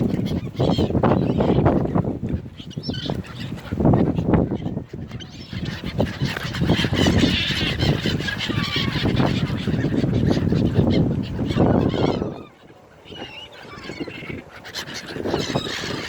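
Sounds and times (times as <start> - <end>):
seagulls calling and squawking: 0.0 - 16.0.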